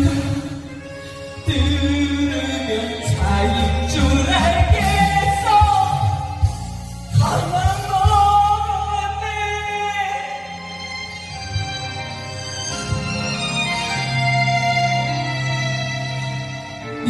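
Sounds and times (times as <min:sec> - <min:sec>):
karaoke backing track: 0:00.0 - 0:17.0.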